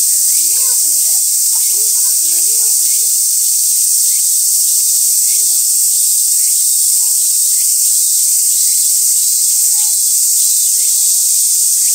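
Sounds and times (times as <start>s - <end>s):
cicadas buzzing: 0.0s - 11.9s.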